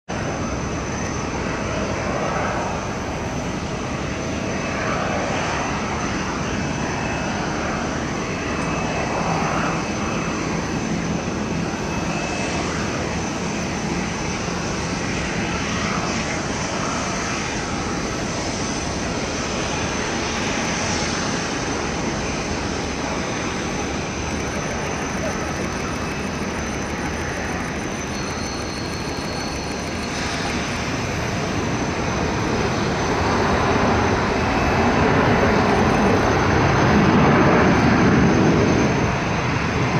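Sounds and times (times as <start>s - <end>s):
distant jet engines with high whine: 0.0s - 39.9s.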